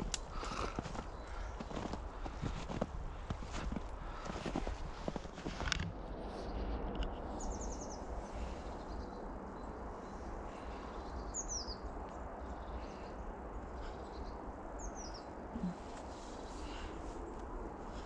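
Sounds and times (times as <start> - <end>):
small birds calling: 0.0 - 5.2, 7.3 - 17.3.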